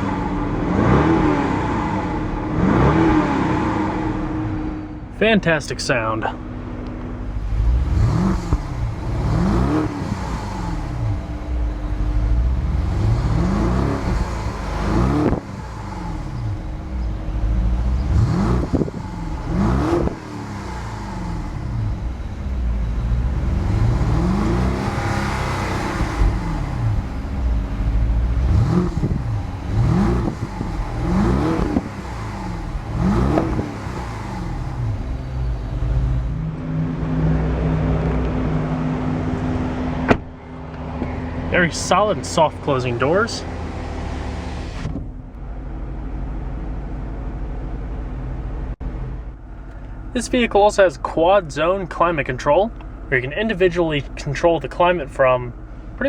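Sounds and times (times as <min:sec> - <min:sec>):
car engine revving: 0:00.0 - 0:56.0
low engine rumble: 0:00.0 - 0:56.0.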